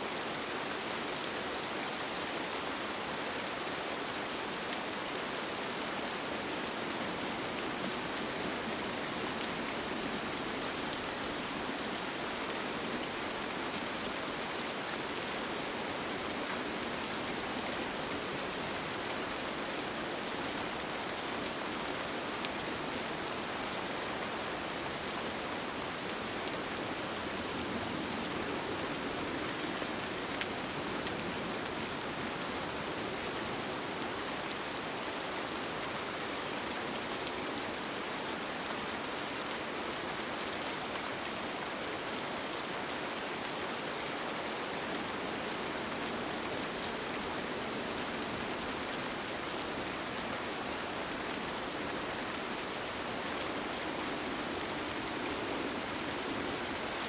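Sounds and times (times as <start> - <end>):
rain patter on a surface: 0.0 - 57.0.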